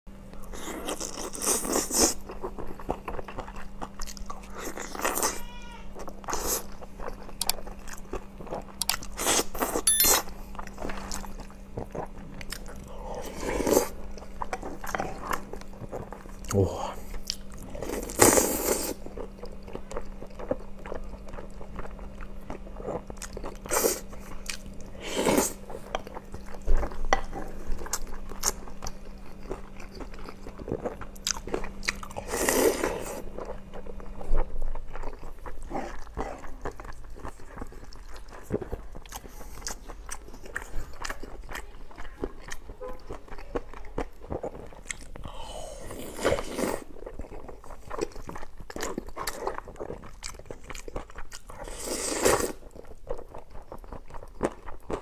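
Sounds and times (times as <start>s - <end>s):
person chewing food: 0.4s - 55.0s.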